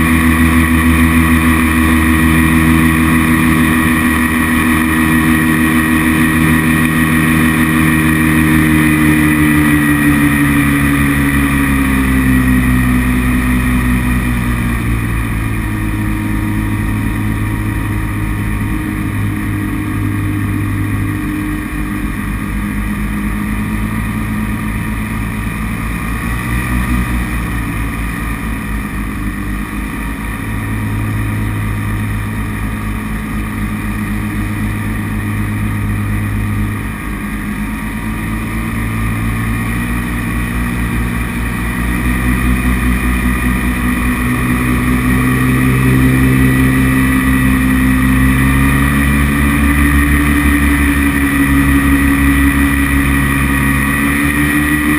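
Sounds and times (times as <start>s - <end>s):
paramotor engine and propeller: 0.0s - 54.9s.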